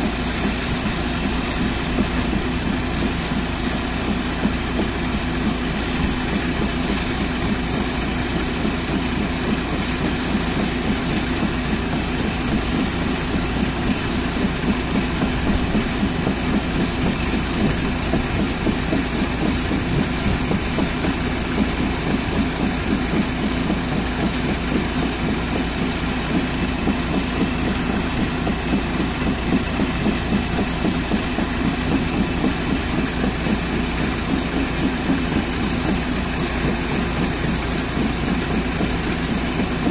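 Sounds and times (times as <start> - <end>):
engine idling: 0.0 - 39.9
hose jet spraying water on metal: 0.0 - 39.9.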